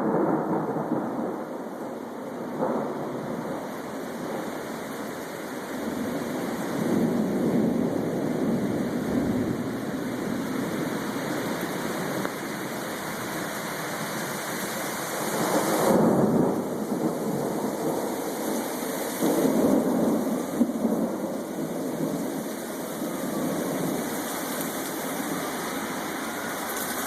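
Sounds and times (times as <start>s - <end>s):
rain falling: 0.0s - 27.0s
thunder rumbling: 0.0s - 27.0s.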